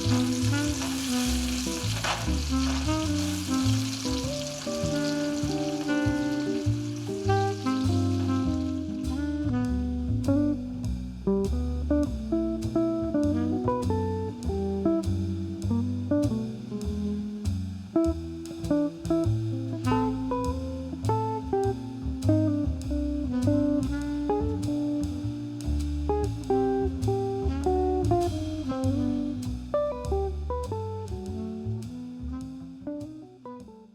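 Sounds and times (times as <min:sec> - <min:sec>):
instrumental music with guitar: 0:00.0 - 0:33.9.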